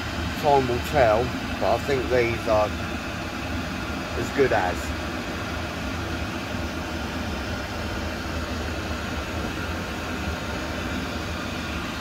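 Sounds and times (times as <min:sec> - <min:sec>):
diesel heater fan whirring: 0:00.0 - 0:12.0.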